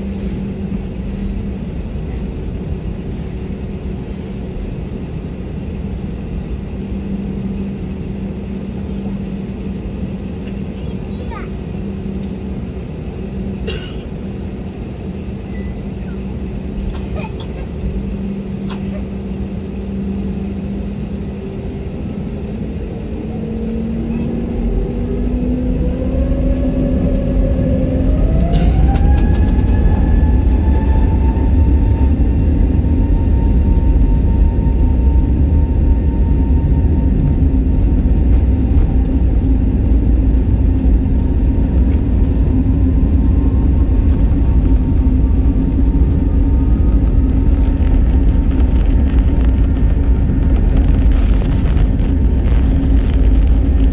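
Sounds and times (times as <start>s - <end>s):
jet engines whining and rumbling: 0.0s - 53.9s.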